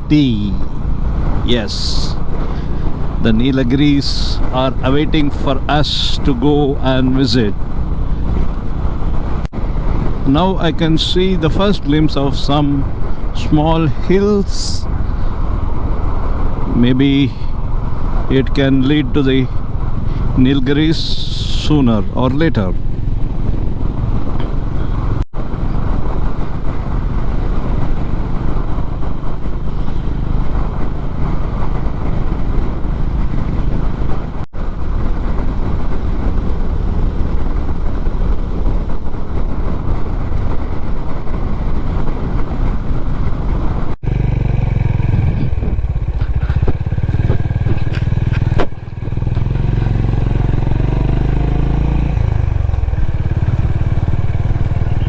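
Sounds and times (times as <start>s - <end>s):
motorcycle engine running: 0.0s - 11.2s, 17.6s - 55.0s
wind and road noise: 0.0s - 55.0s.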